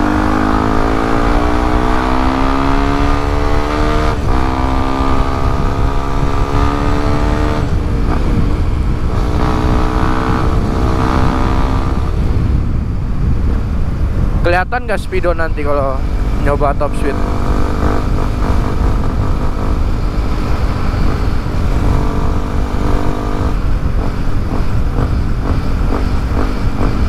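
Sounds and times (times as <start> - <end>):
motorcycle engine accelerating: 0.0 - 27.0
wind rumble on microphone: 0.0 - 27.0.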